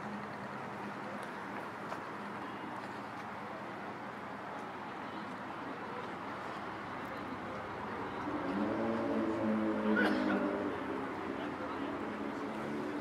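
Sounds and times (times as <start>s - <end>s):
traffic noise: 0.0s - 13.0s
faint voices: 0.1s - 13.0s.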